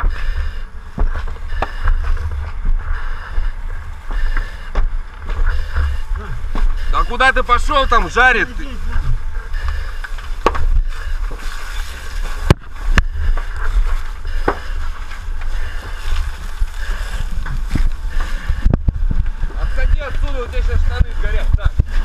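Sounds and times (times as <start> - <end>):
heavy low rumble: 0.0 - 22.0.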